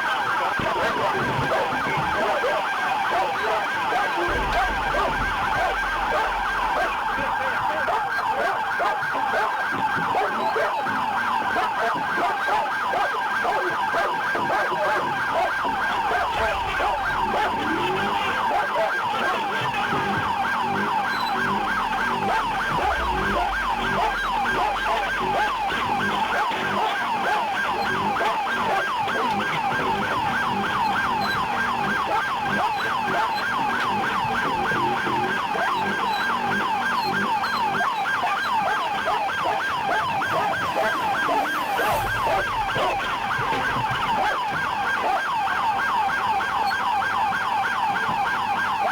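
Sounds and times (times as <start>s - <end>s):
police siren yelping: 0.0s - 48.9s.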